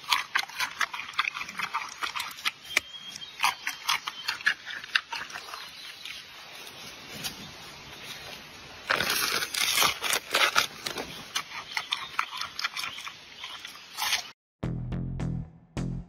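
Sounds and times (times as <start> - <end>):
panda crunching bamboo: 0.0 - 7.4, 8.1 - 14.4.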